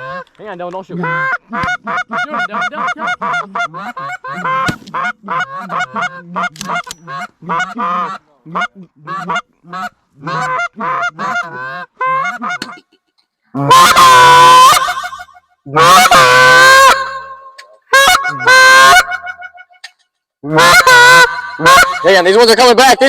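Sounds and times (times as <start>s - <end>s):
goose honking: 0.0s - 12.8s, 13.6s - 19.9s, 20.5s - 23.0s.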